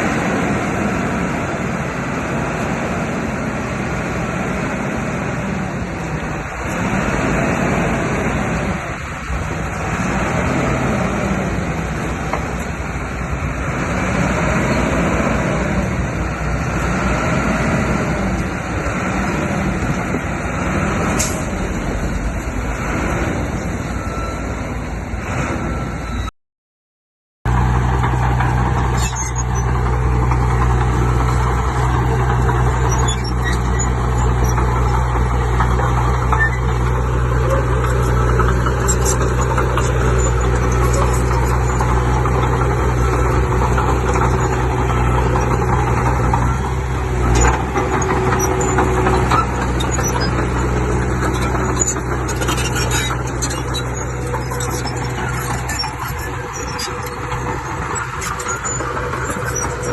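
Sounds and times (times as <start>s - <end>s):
heavy diesel engine droning: 0.0s - 26.3s, 27.5s - 59.9s.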